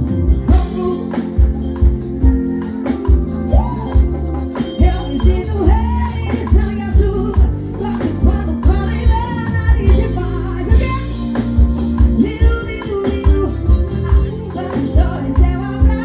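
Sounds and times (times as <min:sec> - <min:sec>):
live band music: 0:00.0 - 0:16.0
person singing: 0:00.0 - 0:16.0.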